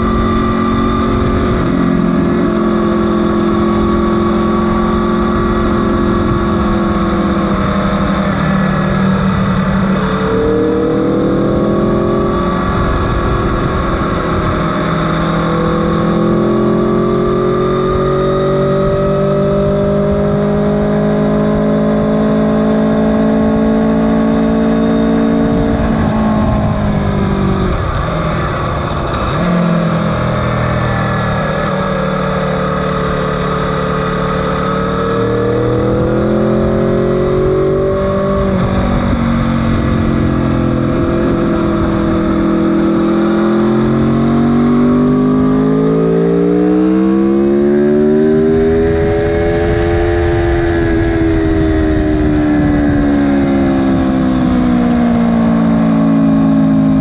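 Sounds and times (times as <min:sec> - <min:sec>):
wind rush over microphone: 0:00.0 - 0:29.5, 0:35.2 - 0:44.9, 0:48.2 - 0:57.0
motorcycle engine revving: 0:00.0 - 0:57.0.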